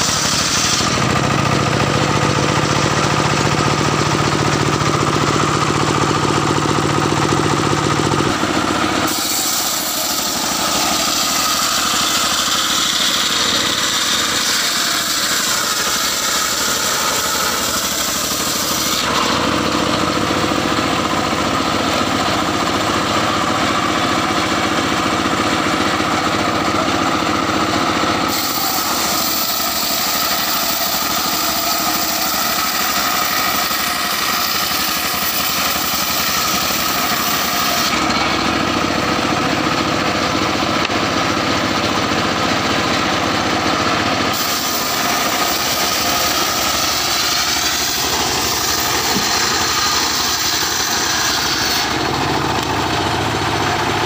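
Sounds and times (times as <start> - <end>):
engine running under load: 0.0 - 54.0
saw blade cutting wood: 0.0 - 54.0.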